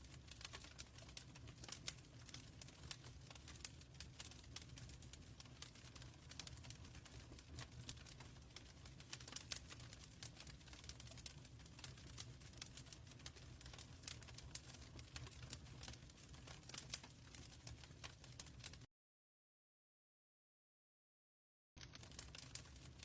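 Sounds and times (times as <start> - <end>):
wood fire crackling: 0.0 - 18.9, 21.8 - 23.0.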